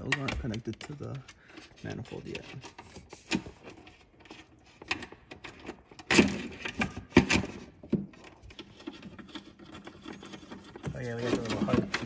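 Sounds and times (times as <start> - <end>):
tools and metal parts clattering: 0.0 - 12.0.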